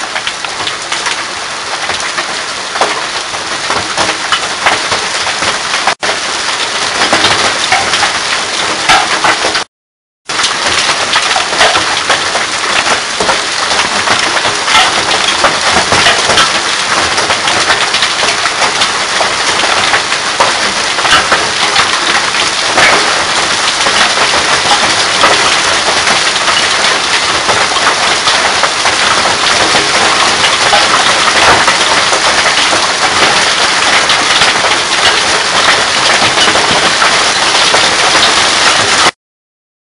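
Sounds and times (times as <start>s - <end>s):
hail and rain pelting: 0.0s - 9.7s, 10.3s - 39.2s.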